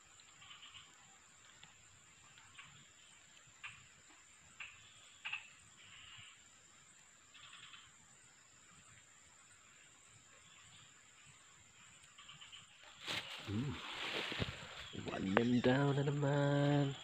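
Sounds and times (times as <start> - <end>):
faint chirps: 0.0 - 17.0.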